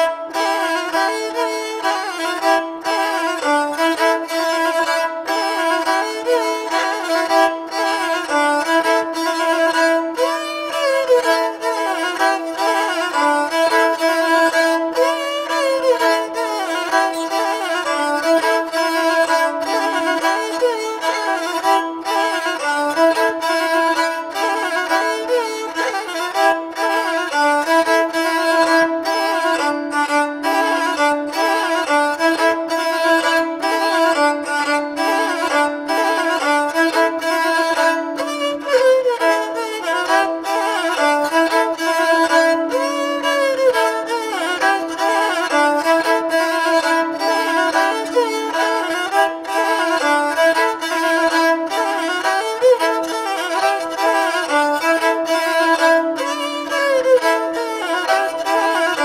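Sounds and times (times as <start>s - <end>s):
bowed fiddle dance melody: 0.0s - 59.0s.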